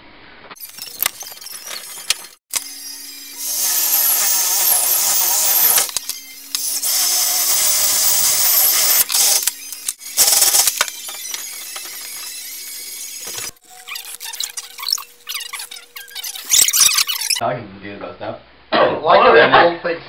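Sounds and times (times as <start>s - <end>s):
power tool running: 0.6s - 17.4s.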